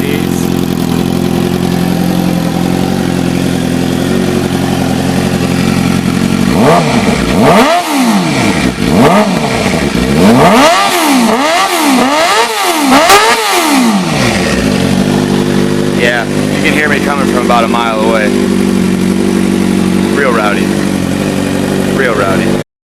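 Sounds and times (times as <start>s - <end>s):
motorcycle engine idling and revving: 0.0s - 22.6s.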